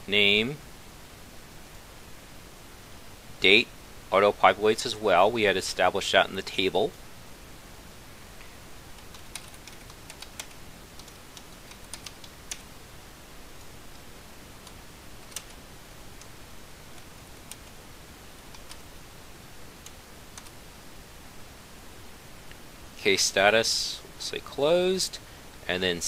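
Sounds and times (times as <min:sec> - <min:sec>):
steady low hiss: 0:00.0 - 0:26.0.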